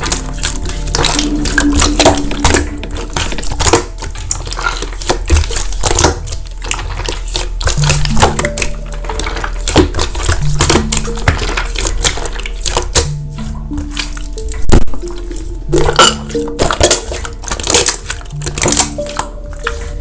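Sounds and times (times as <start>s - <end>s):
background music with held notes: 0.0s - 20.0s
slime squeezed with crackling pops: 0.0s - 20.0s.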